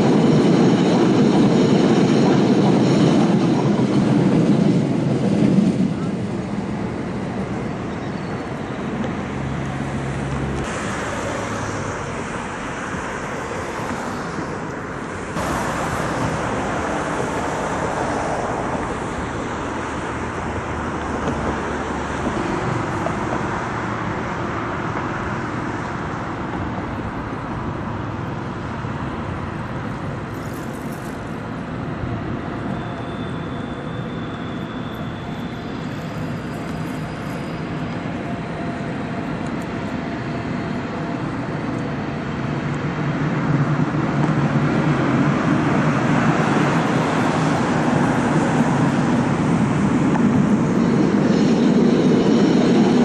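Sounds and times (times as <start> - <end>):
passing cars: 0.0 - 53.0.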